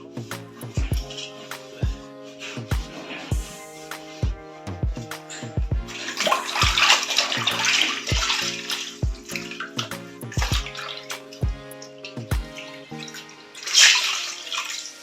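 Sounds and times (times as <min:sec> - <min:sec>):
background music with steady beat: 0:00.0 - 0:15.0
water running: 0:00.0 - 0:15.0.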